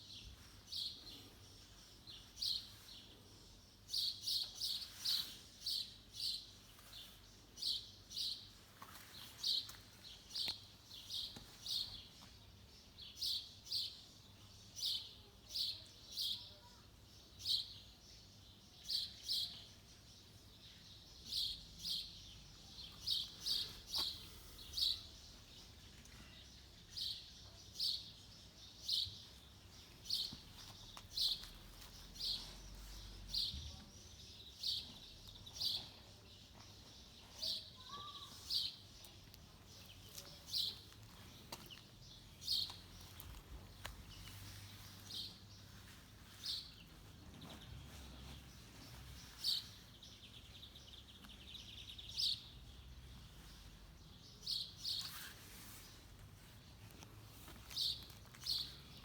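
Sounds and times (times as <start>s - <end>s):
small bird chirping: 0.0s - 59.0s.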